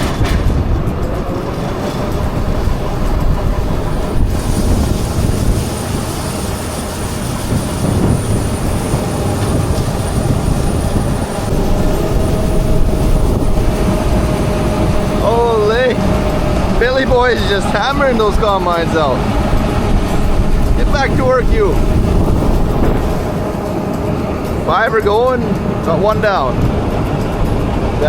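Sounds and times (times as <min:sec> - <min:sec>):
heavy farm machinery engine rumble: 0:00.0 - 0:28.0
thin high whine: 0:01.3 - 0:26.7.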